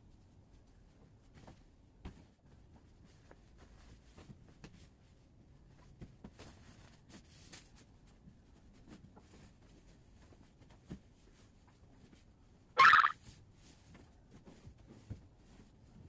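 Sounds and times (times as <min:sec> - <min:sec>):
bedding rustling: 0:00.5 - 0:12.6, 0:13.2 - 0:16.0.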